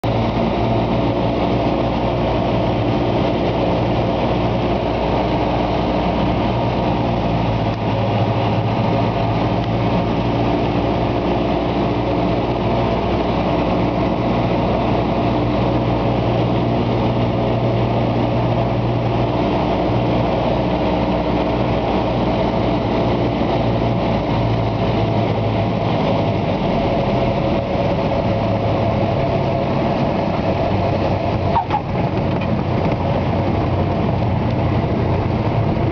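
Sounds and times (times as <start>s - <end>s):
small plane engine drone: 0.0s - 35.9s.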